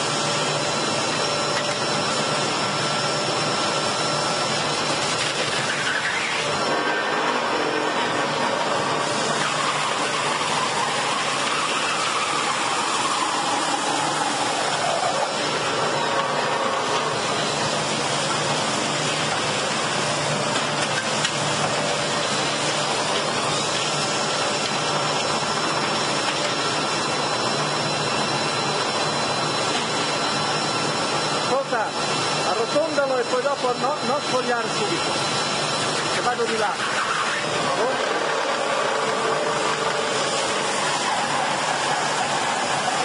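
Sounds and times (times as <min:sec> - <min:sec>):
faint machine whine: 0:00.0 - 0:43.0
lathe shaving wood: 0:00.0 - 0:43.0.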